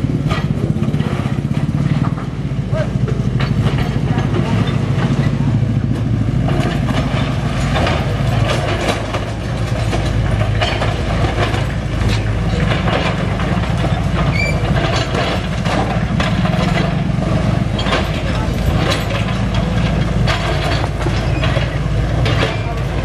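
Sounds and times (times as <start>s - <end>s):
excavator diesel engine under load: 0.0s - 23.0s
rubble crunching and clattering: 0.0s - 23.0s.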